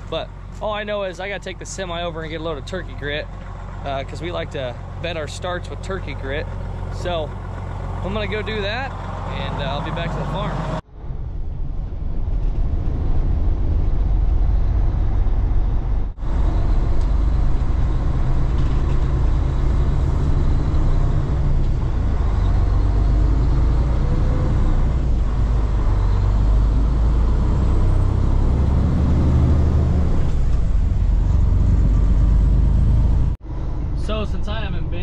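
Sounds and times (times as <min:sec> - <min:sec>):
road noise: 0:00.0 - 0:35.0
truck diesel engine drone: 0:00.0 - 0:35.0.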